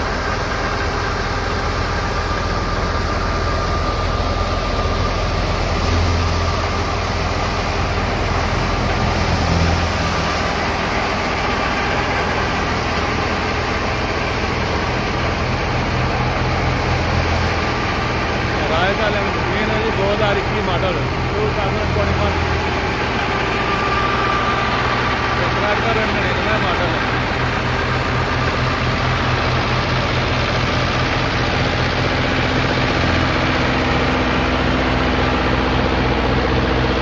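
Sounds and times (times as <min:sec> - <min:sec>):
thresher mechanical whir: 0:00.0 - 0:37.0
tractor diesel engine running: 0:00.0 - 0:37.0.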